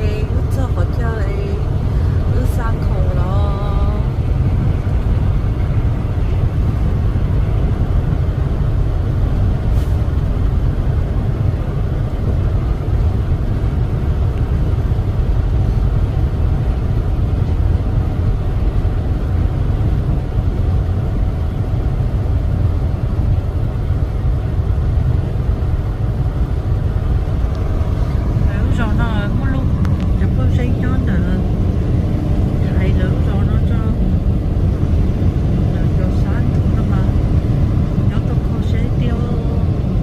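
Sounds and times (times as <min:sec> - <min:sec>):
heavy truck engine rumble: 0:00.0 - 0:40.0
road noise: 0:00.0 - 0:40.0.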